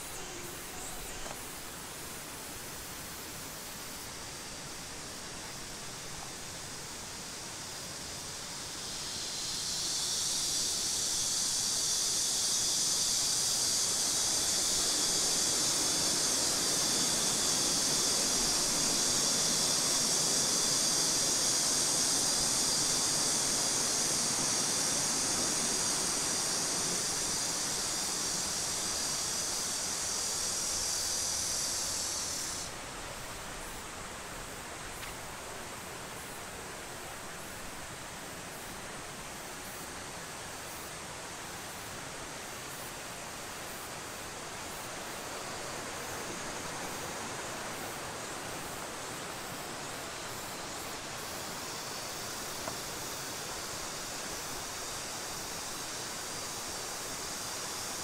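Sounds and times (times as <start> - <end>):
high-pitched hiss: 0.0 - 58.0
outdoor background noise: 0.0 - 58.0.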